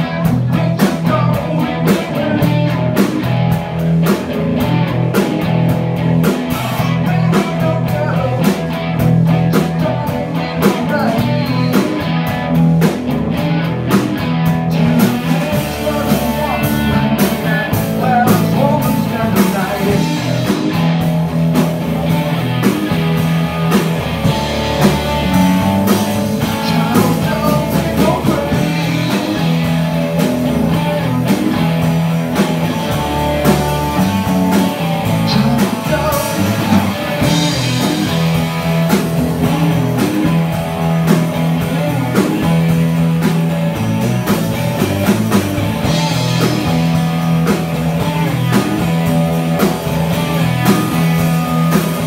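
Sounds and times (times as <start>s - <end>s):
bass: 0.0s - 52.0s
drum kit: 0.0s - 52.0s
electric guitar: 0.0s - 52.0s.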